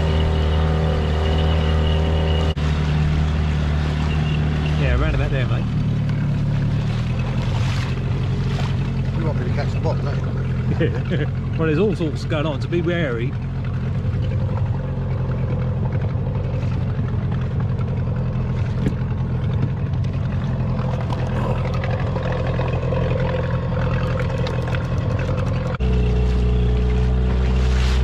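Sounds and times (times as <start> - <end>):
outboard motor running: 0.0 - 28.0
water noise: 0.0 - 28.0.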